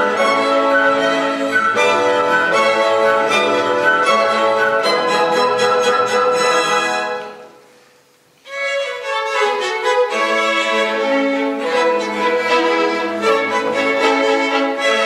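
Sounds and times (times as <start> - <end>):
chamber orchestra playing: 0.0 - 7.5, 8.5 - 15.0.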